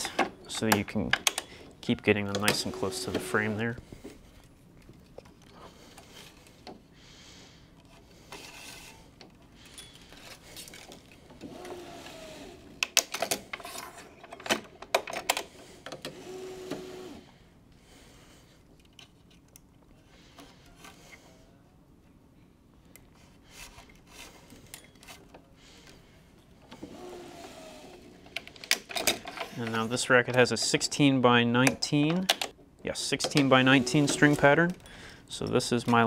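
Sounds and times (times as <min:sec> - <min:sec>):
stringing machine mechanical hum: 0:00.0 - 0:36.0.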